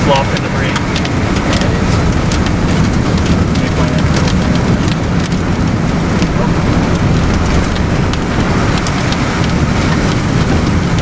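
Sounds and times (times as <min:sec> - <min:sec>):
road and engine noise: 0:00.0 - 0:11.0
sharp ticks hitting car: 0:00.1 - 0:11.0.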